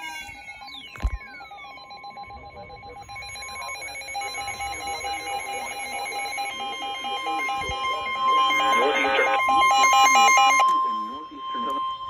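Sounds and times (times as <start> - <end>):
pulsing beeps: 0.0 - 12.0
weather radio alert tone: 0.0 - 12.0.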